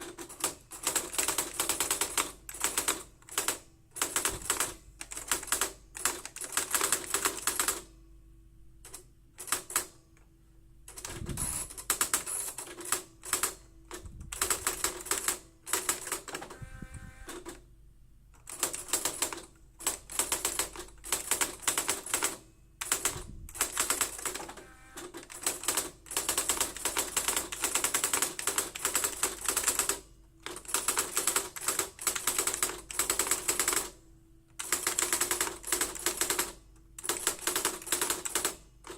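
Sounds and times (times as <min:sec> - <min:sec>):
typewriter rapid clicking: 0:00.0 - 0:07.8, 0:08.9 - 0:09.9, 0:10.9 - 0:13.6, 0:14.4 - 0:16.4, 0:18.4 - 0:24.6, 0:25.2 - 0:34.0, 0:34.6 - 0:38.9
typewriter whir: 0:00.0 - 0:07.9, 0:08.8 - 0:10.0, 0:10.9 - 0:16.6, 0:18.4 - 0:38.9.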